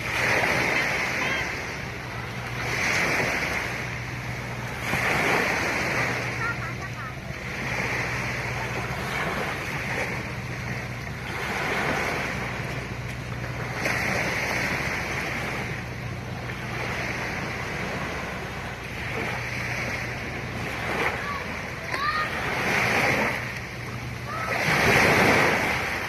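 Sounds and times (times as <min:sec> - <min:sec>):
sea waves breaking: 0:00.0 - 0:26.0
steady low hum: 0:00.0 - 0:26.0.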